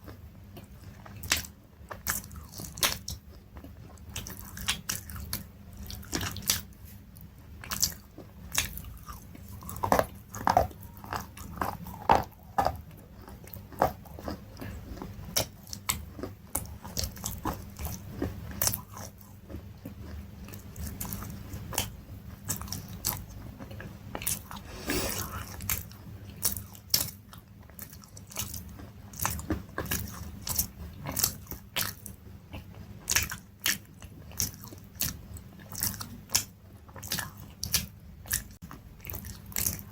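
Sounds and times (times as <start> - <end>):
crunchy food being chewed: 0.0 - 39.9.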